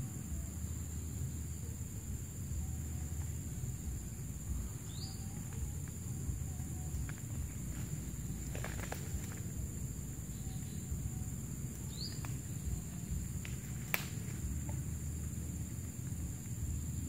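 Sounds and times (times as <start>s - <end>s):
insects droning: 0.0s - 17.0s
low rumble: 0.0s - 17.0s.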